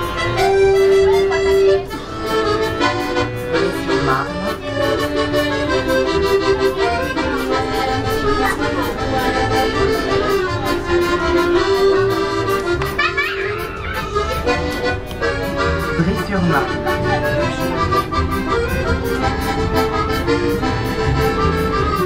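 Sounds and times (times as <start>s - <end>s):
accordion melody with chords: 0.0s - 22.0s.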